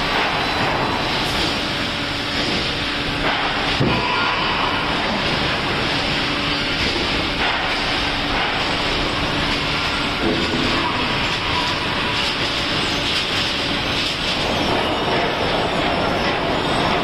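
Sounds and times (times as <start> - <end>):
rolling mill machinery din: 0.0 - 17.0.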